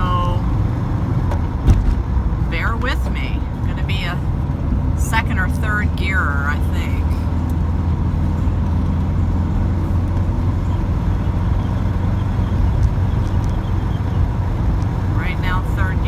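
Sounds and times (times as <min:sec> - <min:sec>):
bus engine drone: 0:00.0 - 0:16.0
road and wind noise: 0:00.0 - 0:16.0.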